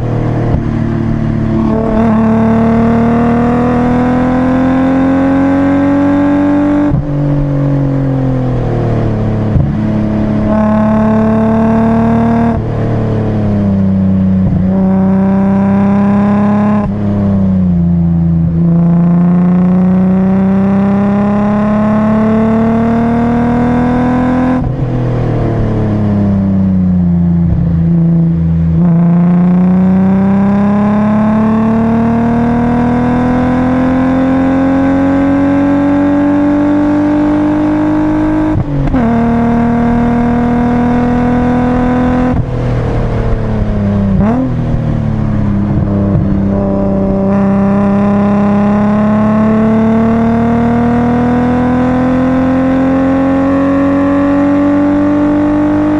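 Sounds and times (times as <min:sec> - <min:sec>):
car engine revving in cabin: 0:00.0 - 0:55.9.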